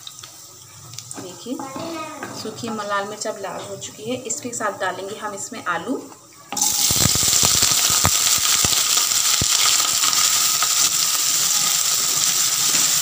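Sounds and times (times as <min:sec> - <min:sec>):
potatoes sizzling in hot oil: 0:00.0 - 0:05.5, 0:06.5 - 0:13.0.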